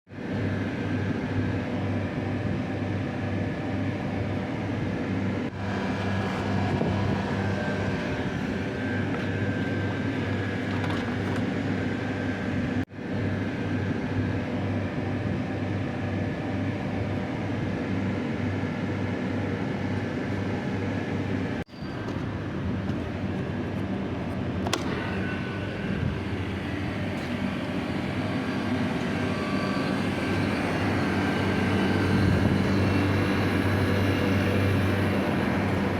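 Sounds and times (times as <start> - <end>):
water chiller mechanical drone: 0.1 - 35.9.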